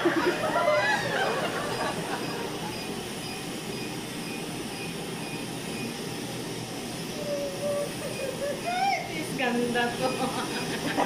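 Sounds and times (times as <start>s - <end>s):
laser machine rushing air: 0.0s - 11.0s.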